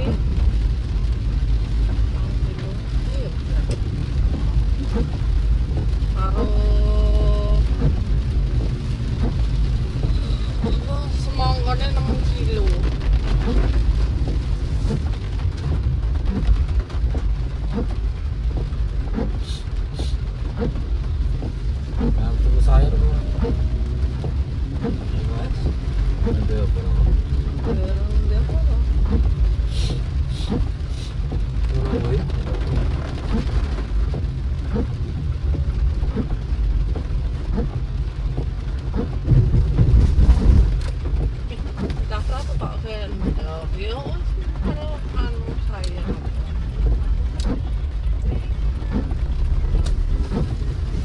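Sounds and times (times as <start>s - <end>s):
car engine and road rumble: 0.0s - 51.0s
rain drops hitting car: 0.0s - 51.0s.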